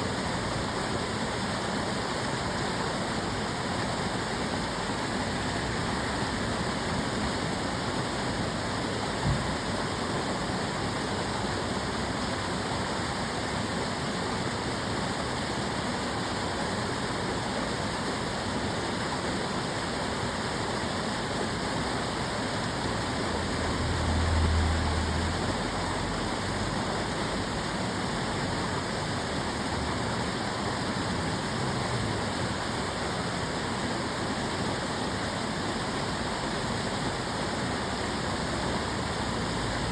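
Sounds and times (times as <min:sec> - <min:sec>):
water rushing in canal: 0:00.0 - 0:39.9.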